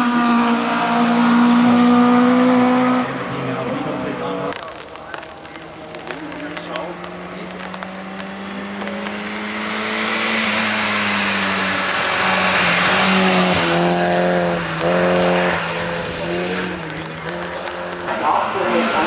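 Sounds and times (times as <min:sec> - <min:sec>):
race car engine at full effort: 0:00.0 - 0:19.0.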